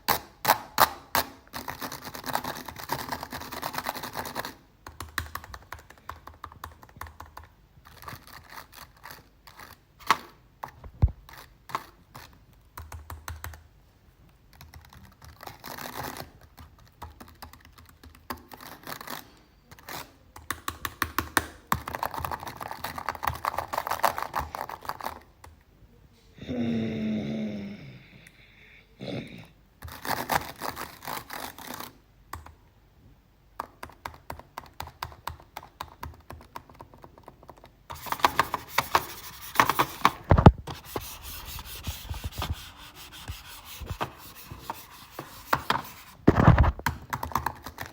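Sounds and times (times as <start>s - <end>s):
computer keyboard typing: 1.6s - 13.7s, 14.3s - 25.6s, 29.8s - 32.6s, 33.6s - 47.9s.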